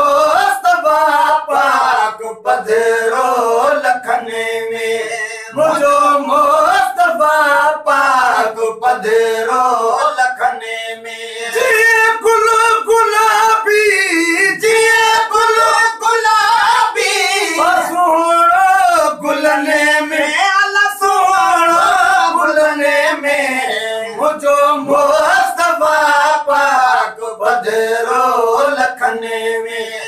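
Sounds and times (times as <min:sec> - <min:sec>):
men chanting unaccompanied: 0:00.0 - 0:30.0.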